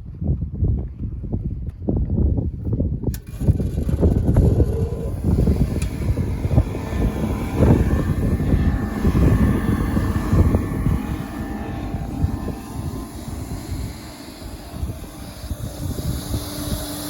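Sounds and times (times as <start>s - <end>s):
gas forge flame roaring: 3.1s - 17.0s.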